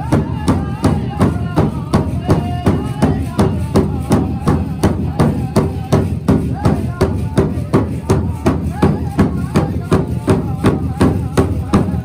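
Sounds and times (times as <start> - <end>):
big drum beating fast: 0.0 - 12.0
group high-pitched singing: 0.0 - 12.0.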